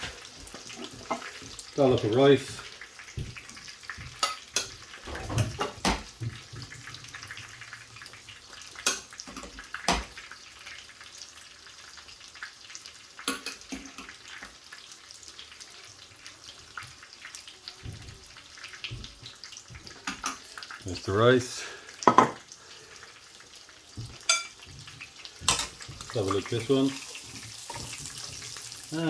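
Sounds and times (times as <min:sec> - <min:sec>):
chicken frying in oil: 0:00.0 - 0:29.0.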